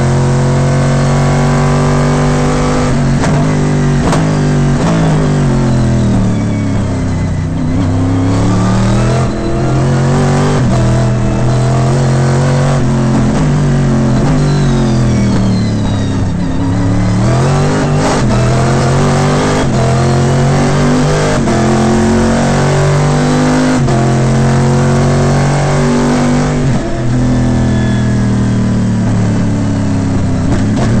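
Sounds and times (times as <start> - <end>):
race car engine at full throttle: 0.0 - 31.0.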